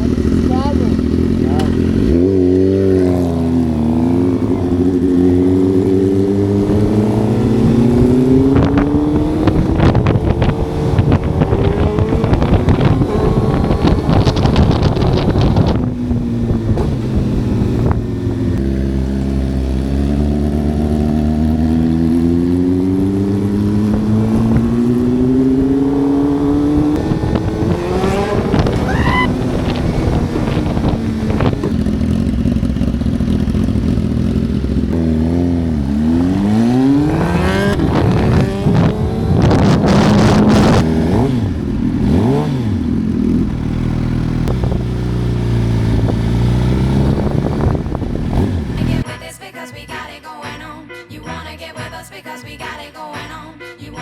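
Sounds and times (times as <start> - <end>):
motorcycle engine revving: 0.0 - 49.1.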